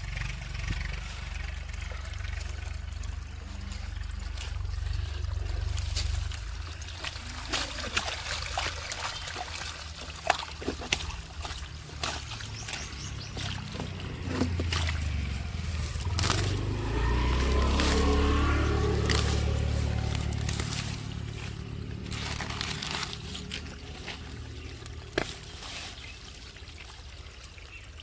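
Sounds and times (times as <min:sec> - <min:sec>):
steady low rumble: 0:00.0 - 0:26.8
water trickling and splashing: 0:00.0 - 0:28.0
water drips and plops: 0:00.3 - 0:28.0.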